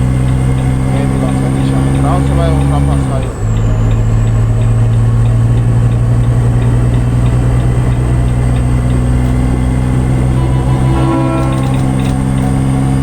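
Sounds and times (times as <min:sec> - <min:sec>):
faint regular ticking: 0:00.0 - 0:12.5
diesel truck engine running: 0:00.0 - 0:13.0.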